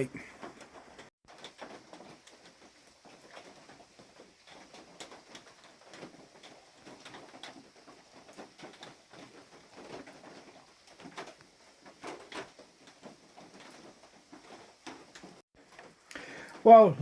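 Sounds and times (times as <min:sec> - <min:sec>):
faint wind and rain hiss: 0:00.0 - 0:17.0
rain dripping and pattering: 0:00.0 - 0:17.0.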